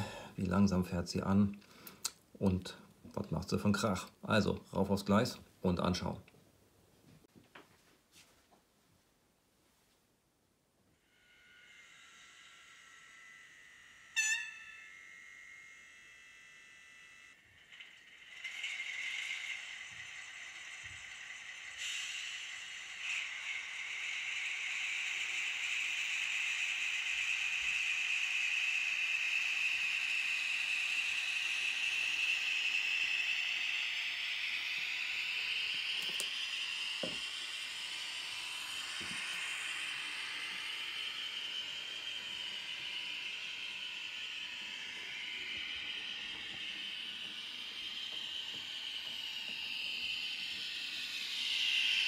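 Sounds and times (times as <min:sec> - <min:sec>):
model train diesel engine sound: 0:00.0 - 0:01.0, 0:11.0 - 0:52.0.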